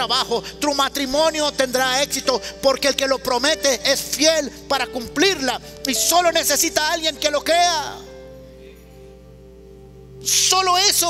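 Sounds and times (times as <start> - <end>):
soft music with held chords: 0.0 - 11.0.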